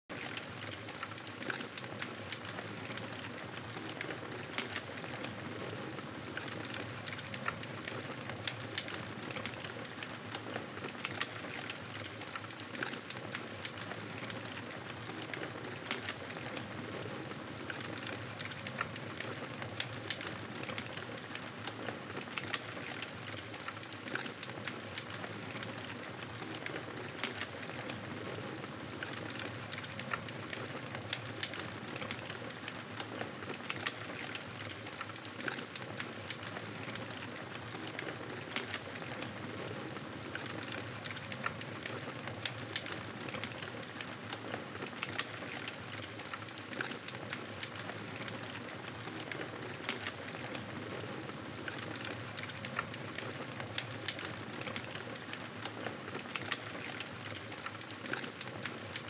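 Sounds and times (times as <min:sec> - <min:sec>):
campfire crackling: 0:00.2 - 0:59.0.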